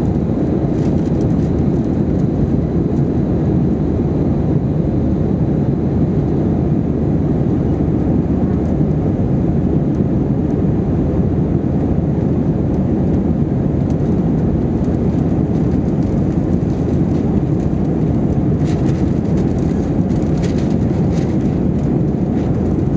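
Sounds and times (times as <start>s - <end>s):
airliner cabin roar: 0.0s - 22.9s.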